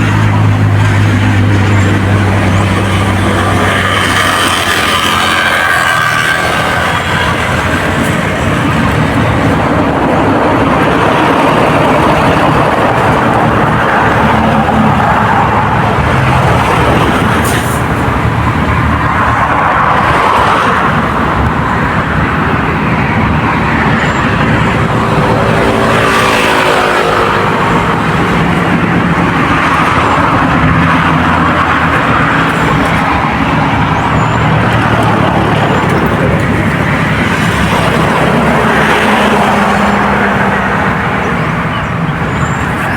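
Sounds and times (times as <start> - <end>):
road traffic noise: 0.0 - 42.9
vehicle passing close: 0.0 - 42.9.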